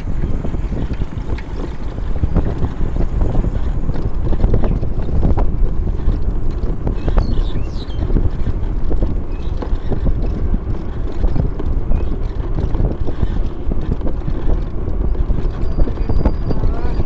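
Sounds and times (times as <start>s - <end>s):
small knocks and rattles: 0.0s - 17.0s
steady low rumble: 0.0s - 17.0s
wind buffeting microphone: 0.0s - 17.0s.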